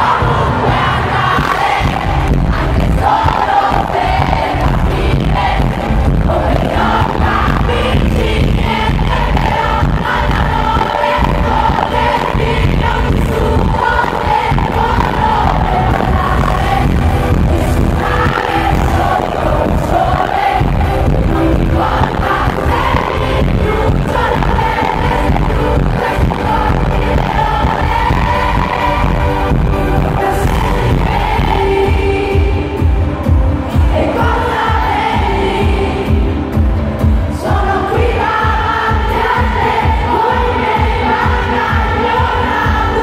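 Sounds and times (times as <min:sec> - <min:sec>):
woman singing into a microphone: 0:00.0 - 0:36.7, 0:37.3 - 0:43.0
live pop band: 0:00.0 - 0:43.0.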